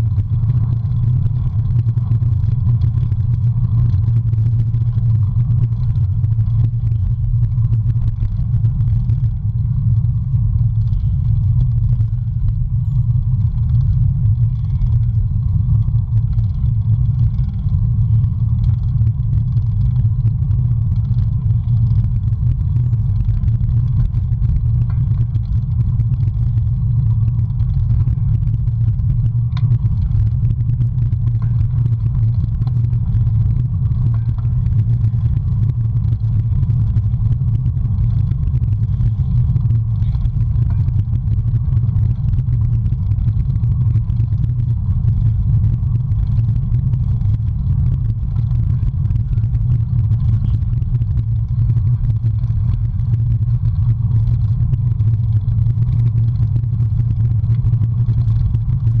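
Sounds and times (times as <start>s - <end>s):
tyre noise on road: 0.0s - 59.0s.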